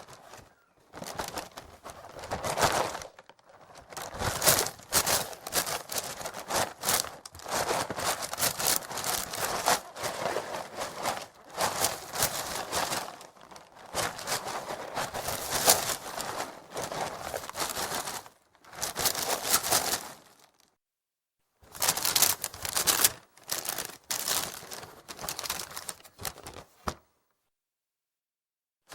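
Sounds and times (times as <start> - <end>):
cereal flakes shifting in box: 0.0 - 20.6, 21.7 - 26.5
plastic bag crinkling: 0.0 - 20.7, 21.7 - 26.8.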